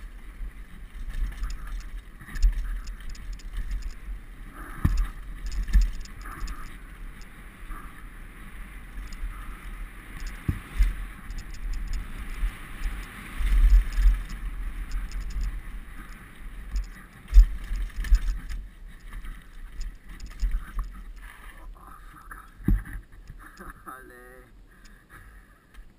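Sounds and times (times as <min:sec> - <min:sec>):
bike thudding over bumps: 0:00.0 - 0:21.6.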